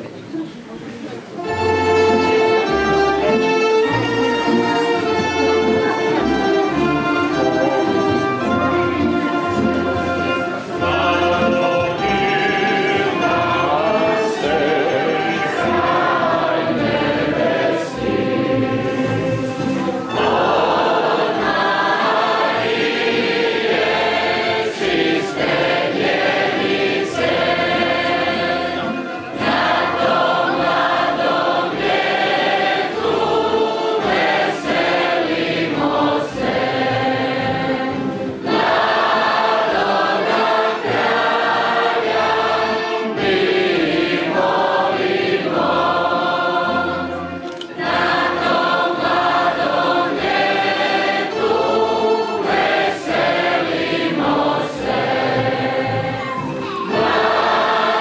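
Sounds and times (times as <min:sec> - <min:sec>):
mixed choir singing: 0:01.4 - 0:03.5, 0:04.8 - 0:58.0.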